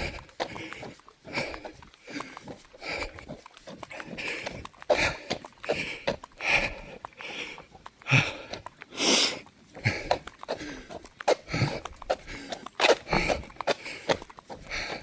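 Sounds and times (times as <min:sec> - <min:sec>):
runner breathing hard: 0:00.0 - 0:15.0.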